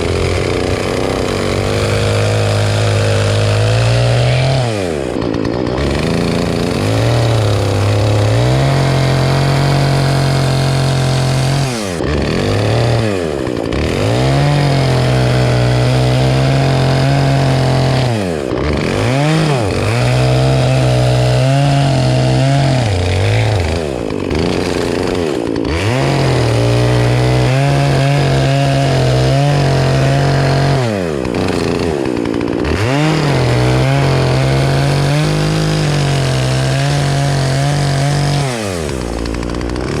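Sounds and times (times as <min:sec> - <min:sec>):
chainsaw cutting a tree: 0:00.0 - 0:40.0.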